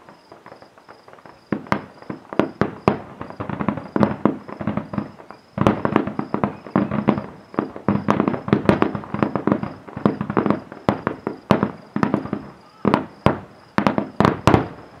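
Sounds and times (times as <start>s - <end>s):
fireworks bursting with bangs: 0.0s - 15.0s
fireworks crackling: 0.0s - 15.0s.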